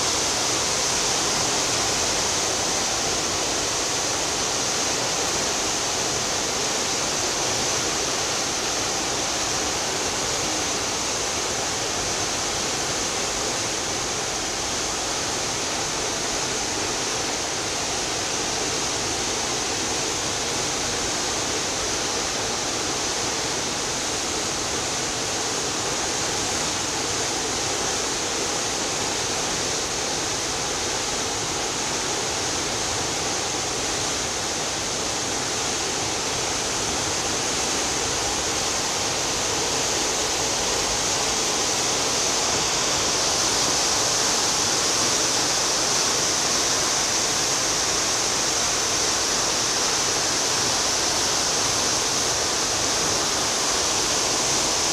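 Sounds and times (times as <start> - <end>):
sea water rushing along ship hull: 0.0 - 54.9.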